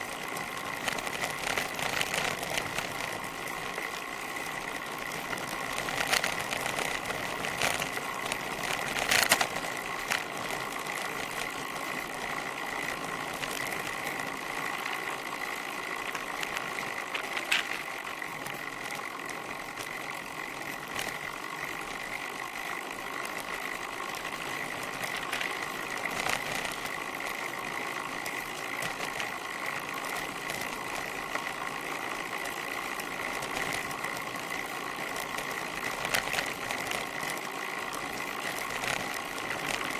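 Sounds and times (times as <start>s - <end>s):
bicycle tyre riding noise: 0.0s - 39.9s.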